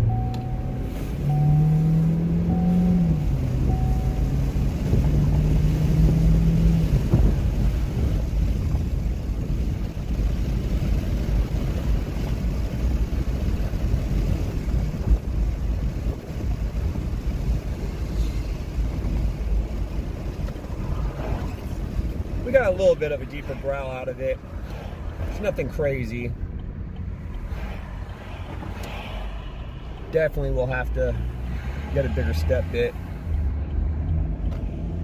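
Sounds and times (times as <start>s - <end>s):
car engine drone: 0.0s - 35.0s
road and wind noise: 0.0s - 35.0s.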